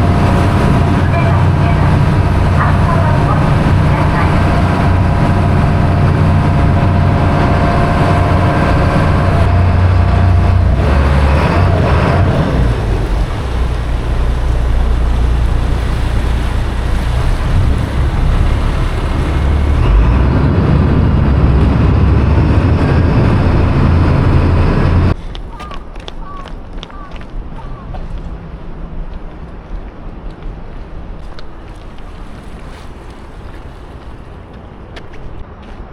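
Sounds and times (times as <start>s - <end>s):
water wash: 0.0s - 35.1s
ferry diesel engine humming: 0.0s - 35.6s
wind: 0.0s - 35.9s.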